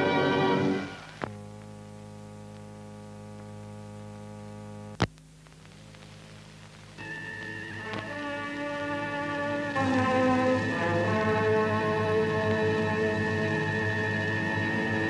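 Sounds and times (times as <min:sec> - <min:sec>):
music: 0:00.0 - 0:04.9, 0:05.7 - 0:15.0
low electrical hum: 0:00.0 - 0:15.0.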